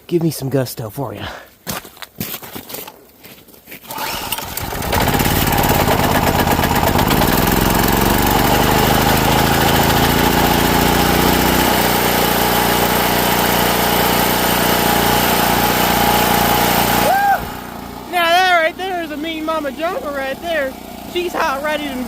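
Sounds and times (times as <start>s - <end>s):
generator engine running: 3.9s - 22.0s.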